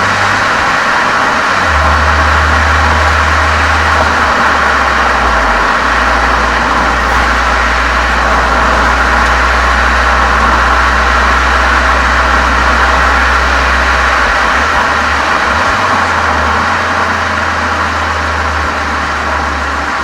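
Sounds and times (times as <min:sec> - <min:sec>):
car exhaust drone with hiss: 0:00.0 - 0:20.0.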